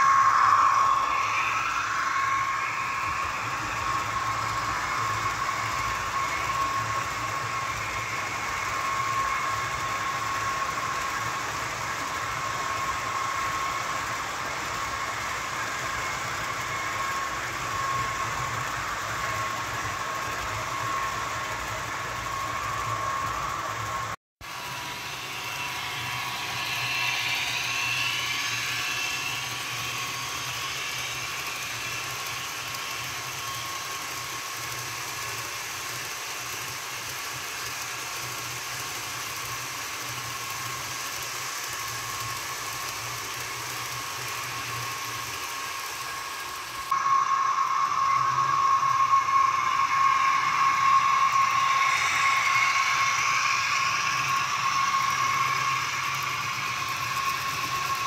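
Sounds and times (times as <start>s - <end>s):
model train humming: 0.0s - 58.0s.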